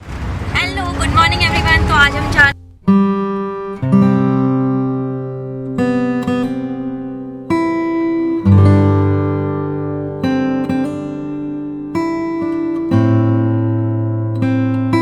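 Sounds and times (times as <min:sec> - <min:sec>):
acoustic guitar strumming chords: 0:00.6 - 0:15.0.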